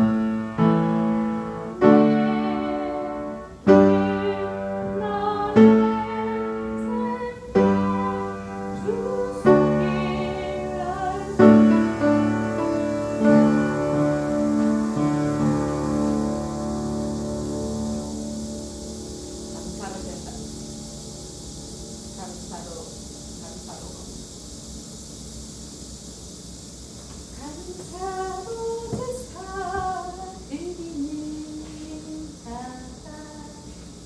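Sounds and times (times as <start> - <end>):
piano playing slow hymn: 0.0 - 26.1, 27.4 - 34.0.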